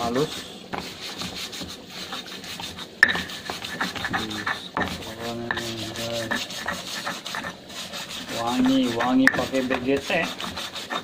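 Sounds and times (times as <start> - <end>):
pestle grinding in mortar: 0.0 - 11.0.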